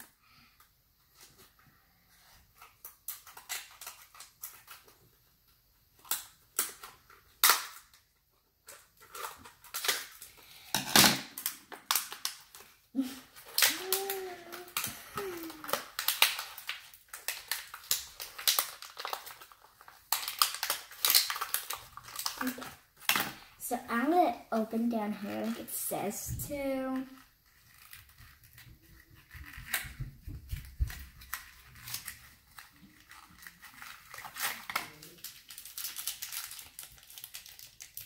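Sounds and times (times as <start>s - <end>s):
plastic packets crinkling: 2.6s - 5.1s, 6.0s - 25.9s, 26.5s - 38.0s.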